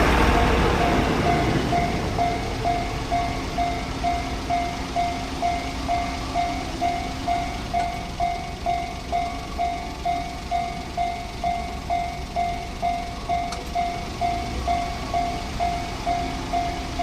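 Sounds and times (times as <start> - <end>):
level-crossing warning bell: 0.0 - 17.0.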